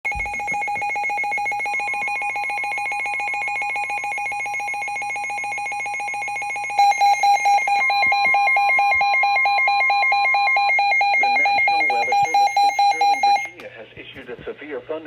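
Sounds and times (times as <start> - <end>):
weather radio alarm beeping: 0.1 - 13.6.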